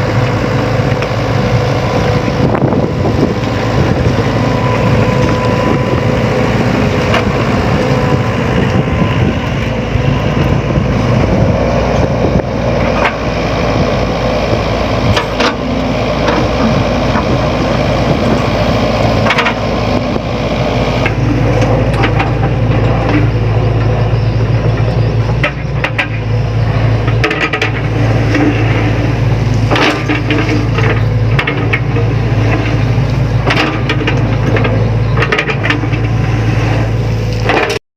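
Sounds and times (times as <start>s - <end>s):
excavator diesel engine running: 0.0s - 37.8s.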